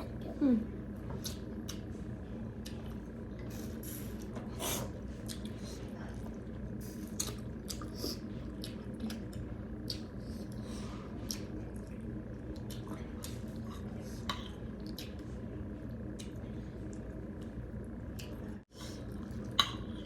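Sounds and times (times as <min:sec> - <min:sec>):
low hum: 0:00.0 - 0:20.0
chewing wet food: 0:01.2 - 0:04.3, 0:05.0 - 0:20.0.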